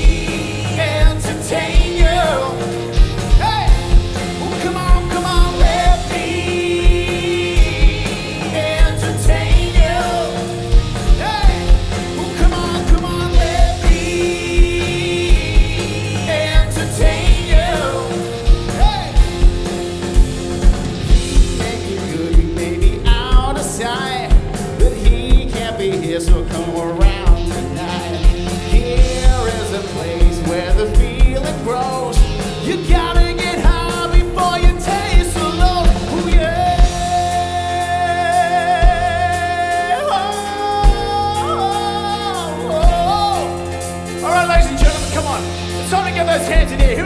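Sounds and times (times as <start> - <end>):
lead singer singing: 0.0 - 47.0
rock band playing: 0.0 - 47.0.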